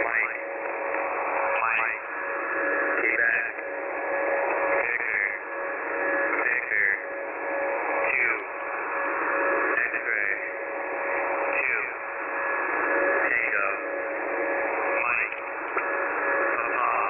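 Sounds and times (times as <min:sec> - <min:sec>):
radio static hiss: 0:00.0 - 0:17.0
steady radio whistles: 0:00.0 - 0:17.0.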